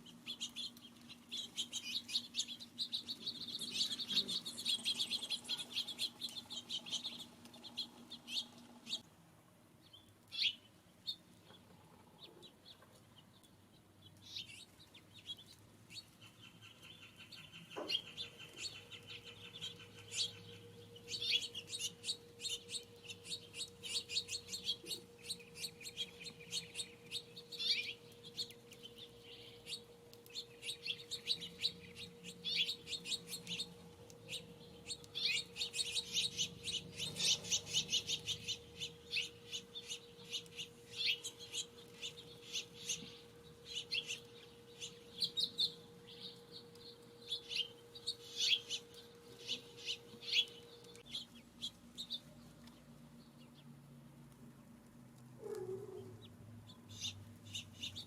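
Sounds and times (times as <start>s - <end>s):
small songbirds chirping: 0.0s - 9.1s, 9.8s - 54.0s, 55.4s - 58.0s.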